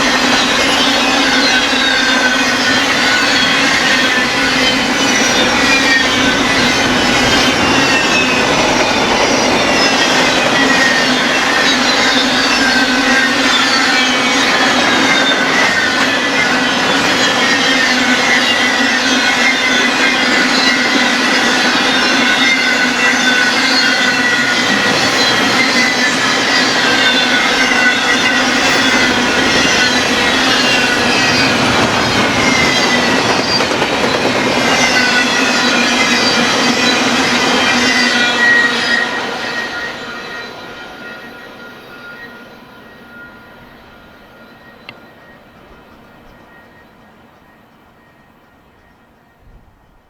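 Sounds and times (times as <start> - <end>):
train cars rumbling past: 0.0 - 50.0
train wheels squealing: 0.0 - 50.0.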